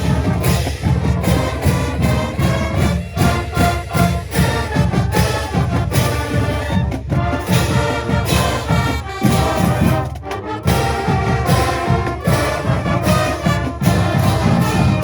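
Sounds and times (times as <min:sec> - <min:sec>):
brass playing a tune: 0:00.0 - 0:15.0
steady drum beat: 0:00.0 - 0:15.0.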